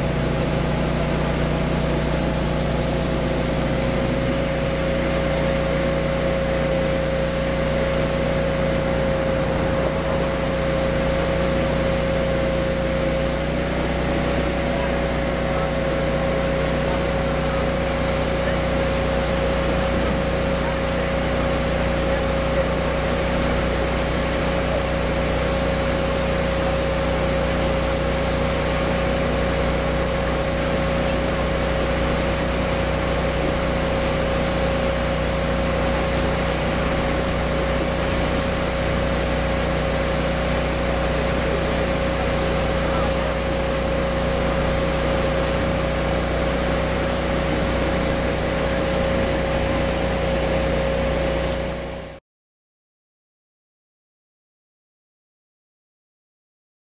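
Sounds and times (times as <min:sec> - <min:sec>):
heavy machinery engine drone: 0:00.0 - 0:52.2
steady machine whine: 0:00.0 - 0:52.2.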